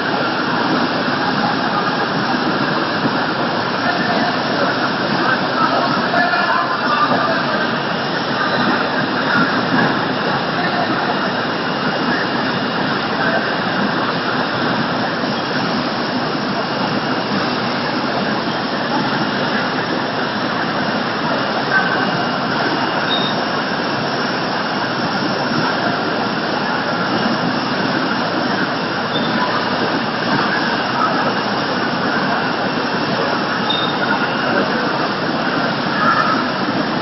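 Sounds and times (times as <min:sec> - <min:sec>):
processing line machinery running: 0:00.0 - 0:37.0.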